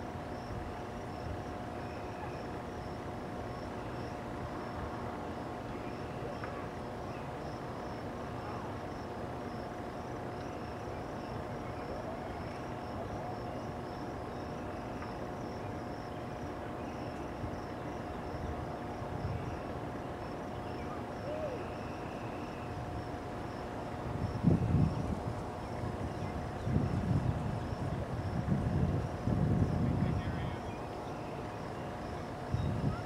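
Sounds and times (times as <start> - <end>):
constant hum: 0.0 - 33.0
insect trill: 0.2 - 33.0.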